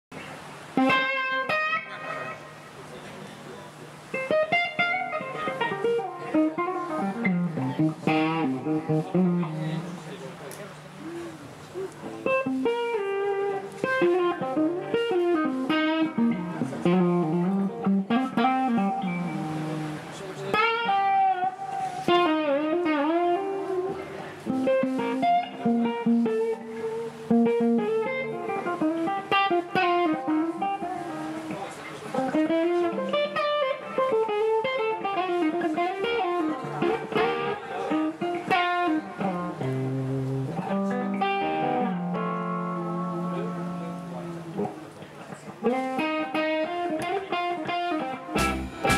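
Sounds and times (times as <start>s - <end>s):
electric guitar blues melody: 0.1s - 48.9s.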